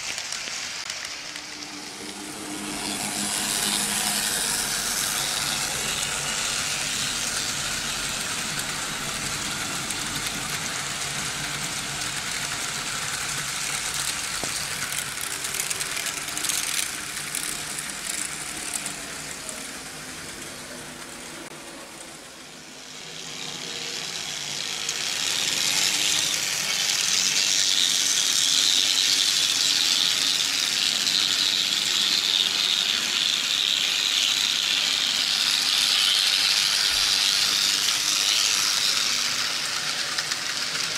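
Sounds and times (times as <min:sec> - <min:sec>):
model trains clattering on metal rails: 0:00.0 - 0:21.3, 0:22.9 - 0:40.9.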